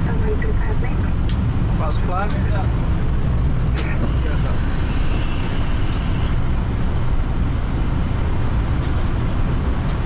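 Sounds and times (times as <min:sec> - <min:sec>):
airflow and engine rumble: 0:00.0 - 0:10.0.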